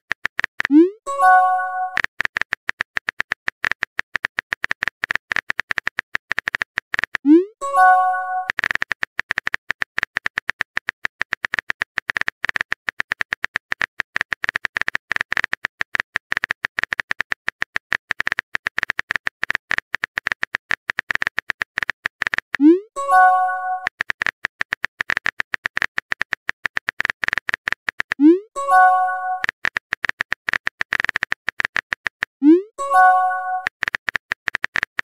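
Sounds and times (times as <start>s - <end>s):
simulated keyboard typing clicks: 0.0s - 35.0s.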